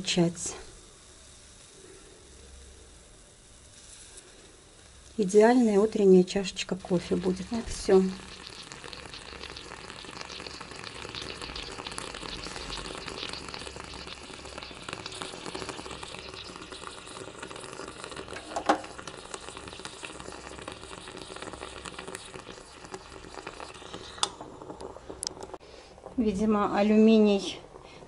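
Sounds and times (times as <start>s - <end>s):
moka pot gurgling and sputtering: 0.0s - 28.0s.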